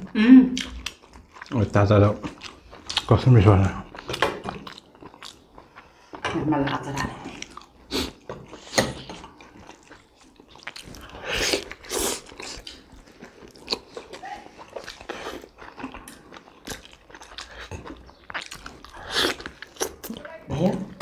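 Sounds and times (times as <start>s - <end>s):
person chewing food: 0.0s - 20.3s.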